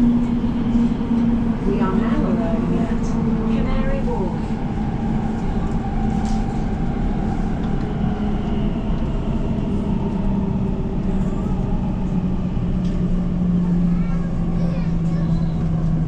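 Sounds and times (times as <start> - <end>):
train rail rumble: 0.0 - 16.0.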